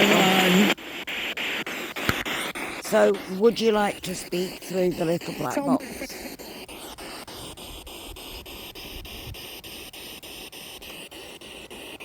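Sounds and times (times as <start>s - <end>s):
radio static hiss: 0.0s - 12.0s
rapid radio scanning clicks: 0.0s - 12.0s.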